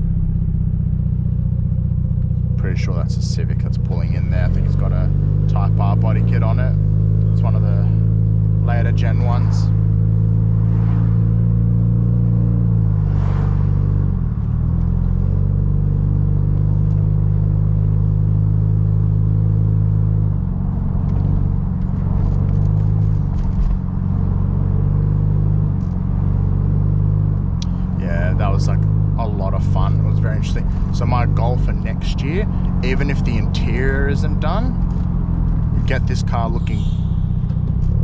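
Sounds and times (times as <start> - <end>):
car engine drone from inside: 0.0 - 38.0.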